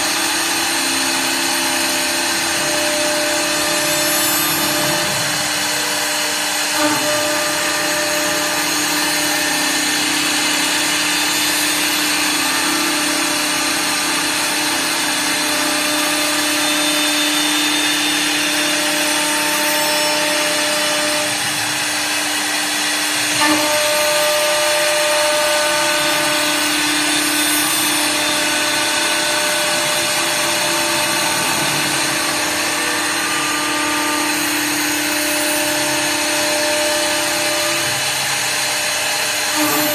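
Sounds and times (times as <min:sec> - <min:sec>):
cutters rasping wood: 0:00.0 - 0:39.9
lathe motor whine: 0:00.0 - 0:39.9.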